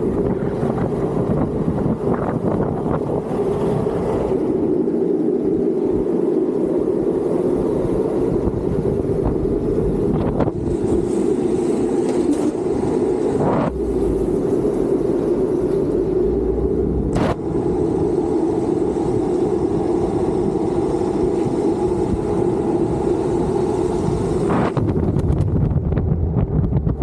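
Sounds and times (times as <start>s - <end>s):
wheels rolling on asphalt: 0.0s - 27.0s.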